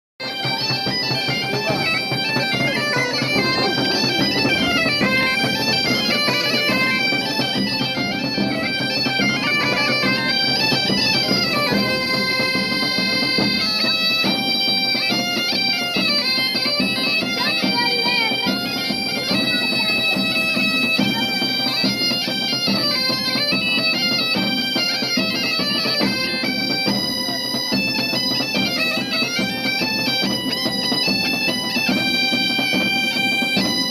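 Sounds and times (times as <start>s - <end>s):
bagpipe music with drone: 0.2s - 33.9s.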